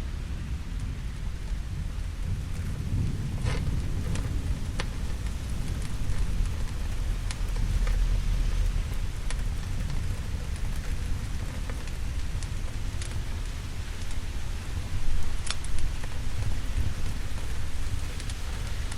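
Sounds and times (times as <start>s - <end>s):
heavy rain: 0.0s - 18.9s
sharp ticks of raindrops: 0.0s - 18.9s
thunder rumbling: 0.0s - 18.9s.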